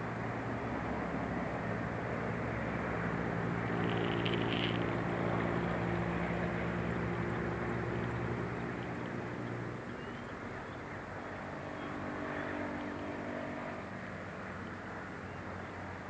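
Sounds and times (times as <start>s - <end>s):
city traffic noise: 0.0s - 16.0s
vehicle engine hum: 0.0s - 16.0s.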